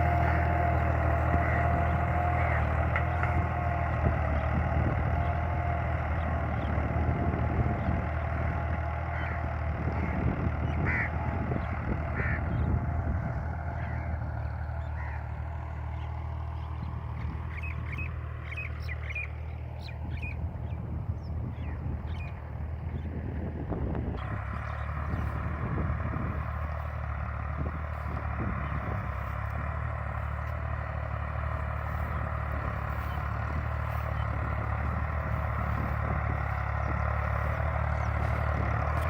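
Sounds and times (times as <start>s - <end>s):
birds calling: 0.0s - 23.4s, 24.1s - 39.0s
tractor diesel engine under load: 0.0s - 39.0s.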